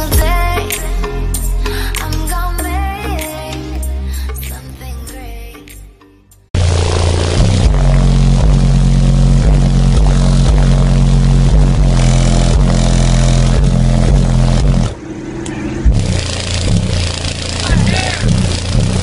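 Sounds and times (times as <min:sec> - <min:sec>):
loud bass-heavy music: 0:00.0 - 0:19.0.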